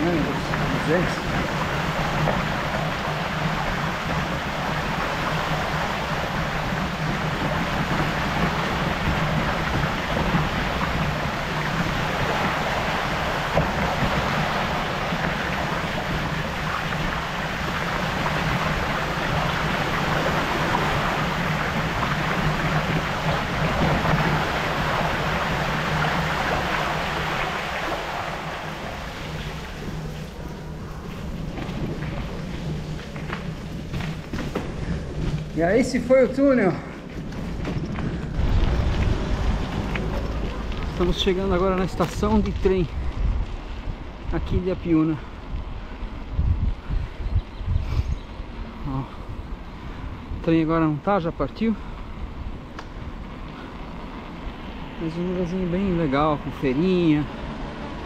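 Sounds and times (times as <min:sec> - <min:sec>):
wind on microphone: 0:00.0 - 0:35.6, 0:37.0 - 0:50.6
bike tyres on wet ground and water: 0:00.0 - 0:58.0.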